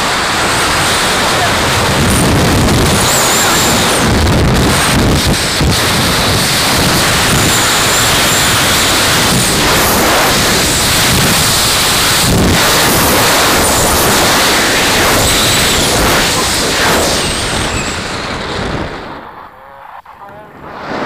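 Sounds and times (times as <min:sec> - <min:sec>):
loud steady wind noise: 0:00.0 - 0:21.0.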